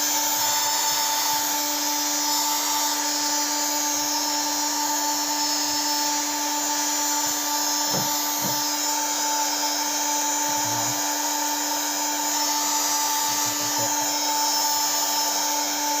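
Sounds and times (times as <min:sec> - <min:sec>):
electric tool whining: 0:00.0 - 0:16.0.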